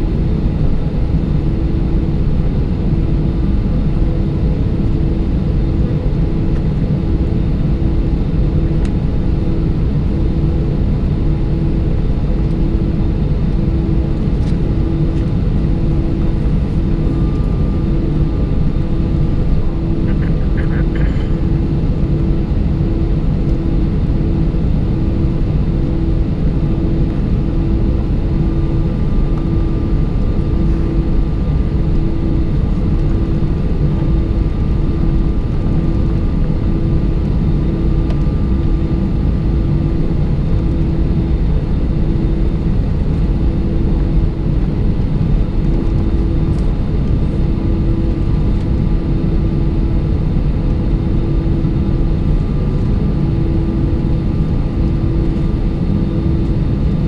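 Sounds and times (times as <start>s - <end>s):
airplane cabin engine rumble: 0.0s - 57.0s
pulsing hum: 0.0s - 57.0s.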